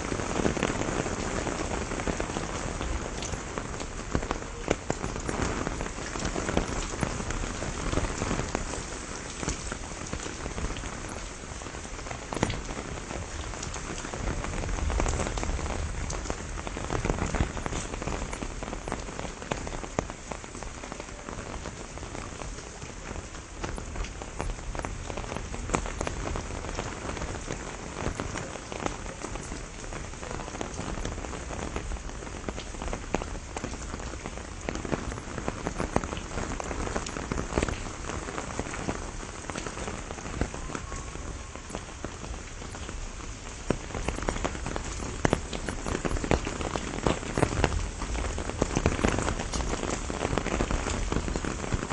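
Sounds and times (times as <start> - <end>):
rain falling on leaves: 0.0 - 51.9
sharp raindrop hits: 0.0 - 51.9.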